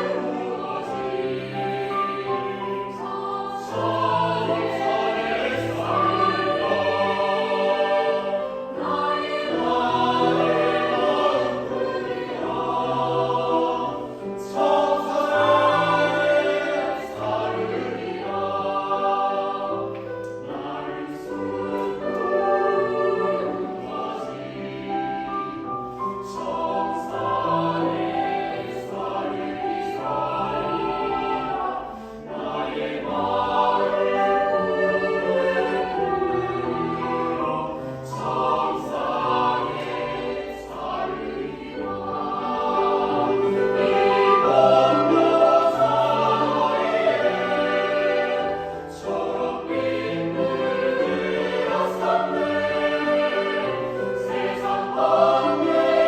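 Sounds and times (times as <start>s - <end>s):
choir singing: 0.0s - 56.0s.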